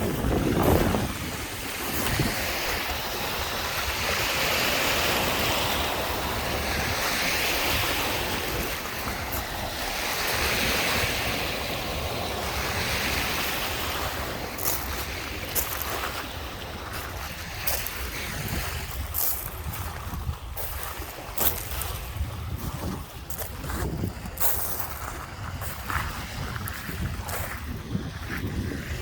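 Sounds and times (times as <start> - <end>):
waves breaking on shore: 0.0 - 29.0
wind rumbling on microphone: 0.0 - 29.0.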